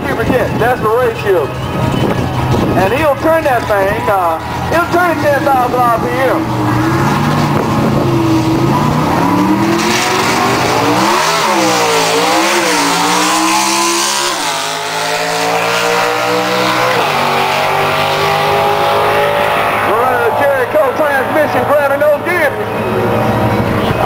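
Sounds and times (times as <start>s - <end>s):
racing car engine accelerating: 1.4s - 24.0s.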